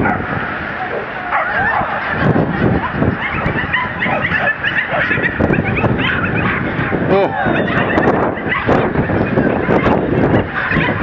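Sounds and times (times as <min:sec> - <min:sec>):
dogs yelping and barking: 0:00.0 - 0:11.0
wind buffeting microphone: 0:00.0 - 0:11.0.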